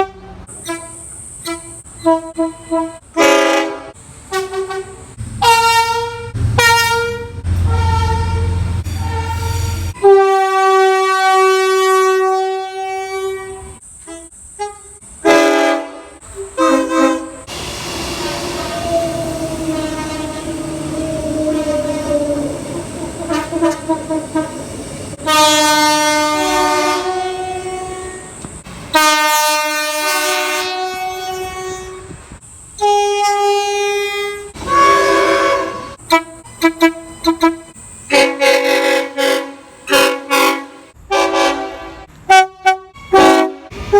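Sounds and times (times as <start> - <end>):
train horn chords: 0.0 - 32.2, 32.8 - 43.9.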